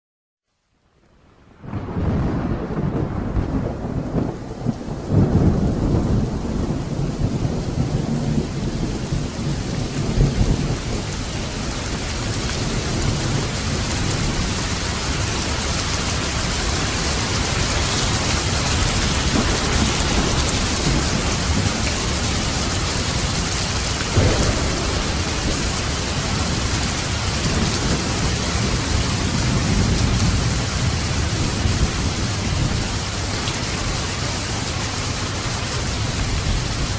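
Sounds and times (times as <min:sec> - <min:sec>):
steady rain: 0:00.5 - 0:36.9
thunder rumbling: 0:01.5 - 0:36.9.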